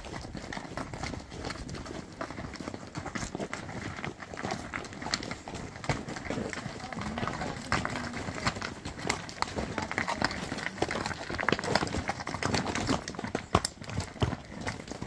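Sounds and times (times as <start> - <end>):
hooves clopping on stones: 0.0 - 15.0.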